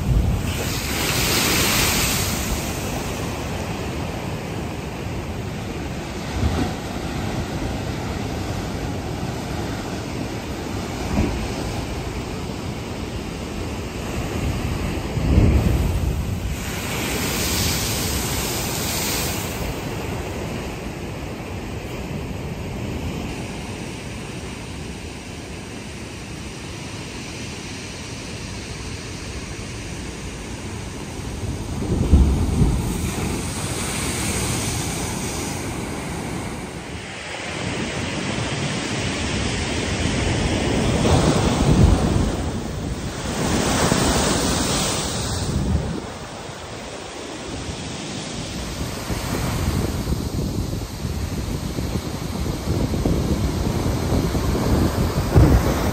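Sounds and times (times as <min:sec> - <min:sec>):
wind buffeting microphone: 0:00.0 - 0:23.7, 0:28.6 - 0:55.9
surf breaking on shore: 0:00.0 - 0:26.2, 0:28.4 - 0:55.9.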